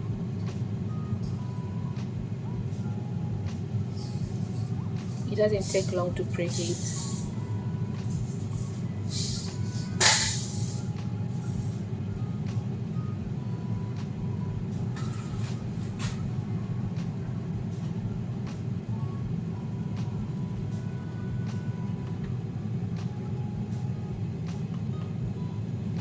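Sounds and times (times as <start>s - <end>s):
air fryer fan whir: 0.0s - 26.0s.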